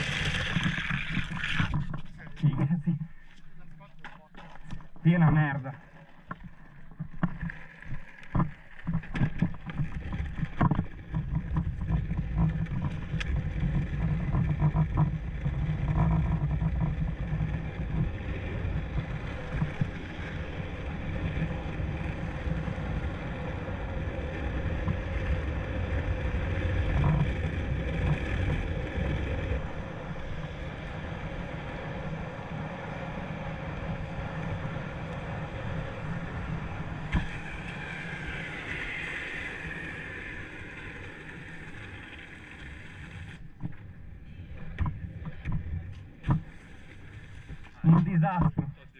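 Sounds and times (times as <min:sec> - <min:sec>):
longboard wheels rolling on asphalt: 0:00.0 - 0:48.9
wind on microphone: 0:09.2 - 0:48.9.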